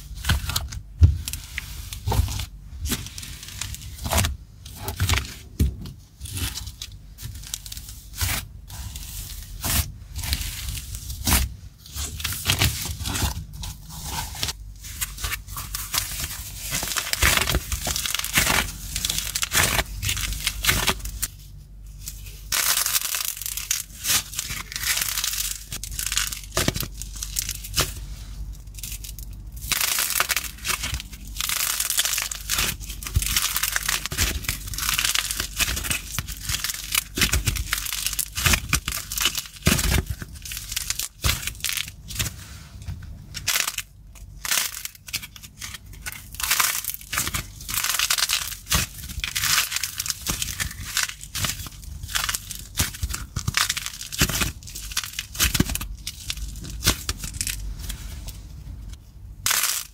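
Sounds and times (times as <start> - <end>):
clay crackling and tearing: 0.0 - 59.9.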